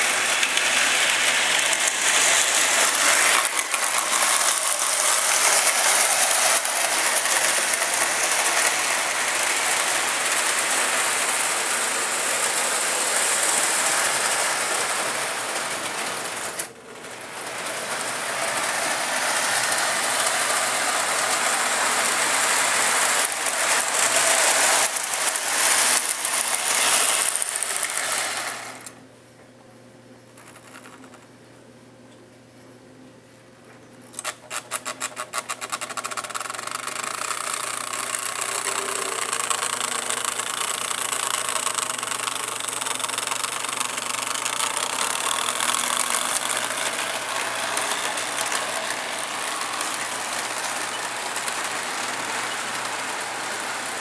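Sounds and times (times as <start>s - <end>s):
toy train gear rattle: 0.0s - 29.0s, 30.4s - 31.2s, 34.1s - 54.0s
wheels clattering over rails: 0.0s - 29.0s, 34.2s - 54.0s.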